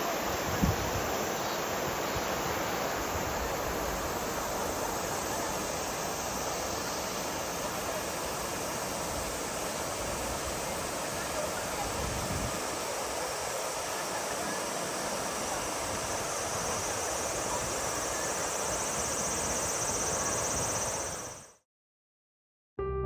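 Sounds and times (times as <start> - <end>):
mountain stream rushing: 0.0 - 21.2.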